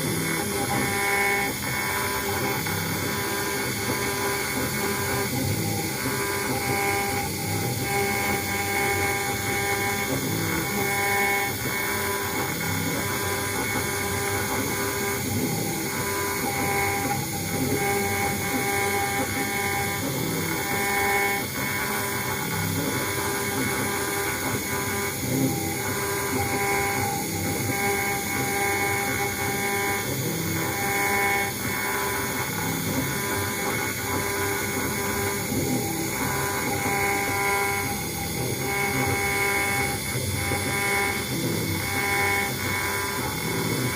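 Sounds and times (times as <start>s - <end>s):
high spindle whine: 0.0s - 43.9s
stepper motor tones: 0.0s - 43.9s.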